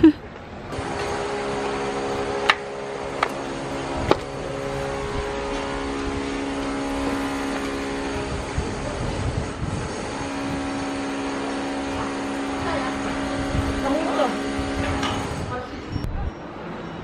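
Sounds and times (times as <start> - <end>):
engine-like drone: 0.5 - 17.0.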